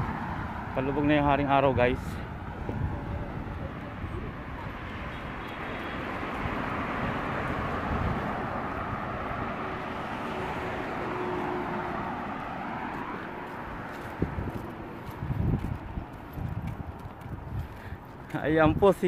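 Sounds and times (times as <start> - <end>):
cars driving past: 0.0 - 18.6.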